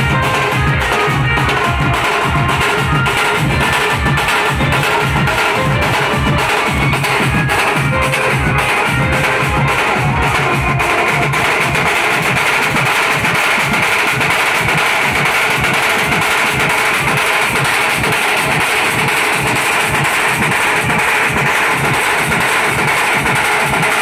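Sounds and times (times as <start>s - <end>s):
barrel drums beaten with sticks: 0.0s - 24.0s.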